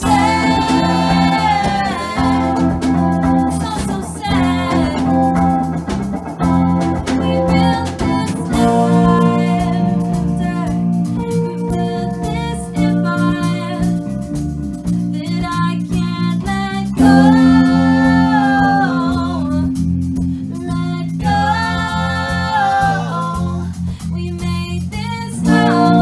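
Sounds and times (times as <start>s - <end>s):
woman singing: 0.0s - 5.6s, 7.1s - 14.3s, 15.2s - 19.8s, 20.4s - 26.0s
bass guitar: 0.0s - 26.0s
electric guitar: 0.0s - 26.0s.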